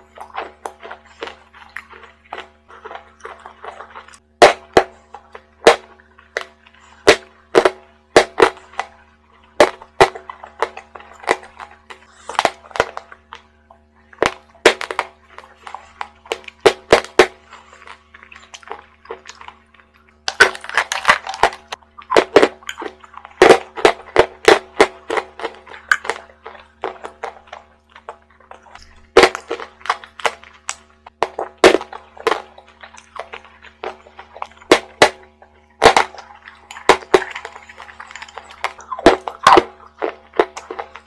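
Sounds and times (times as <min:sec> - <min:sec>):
chewing chalk crunches: 0:00.0 - 0:41.0.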